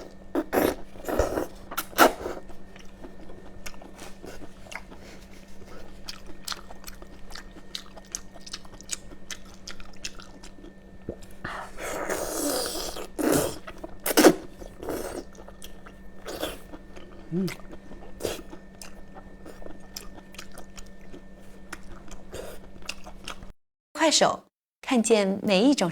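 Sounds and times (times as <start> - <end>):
person chewing: 0.0 - 23.5.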